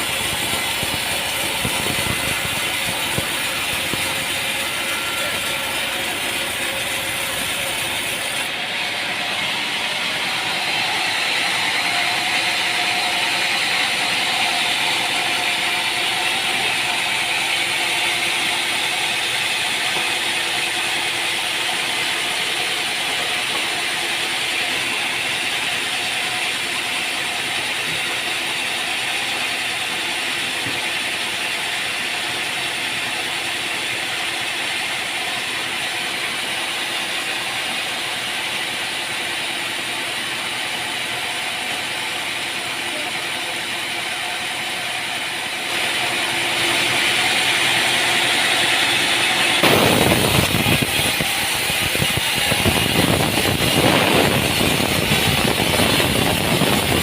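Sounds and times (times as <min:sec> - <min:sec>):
sawmill machinery hiss and hum: 0:00.0 - 0:57.0.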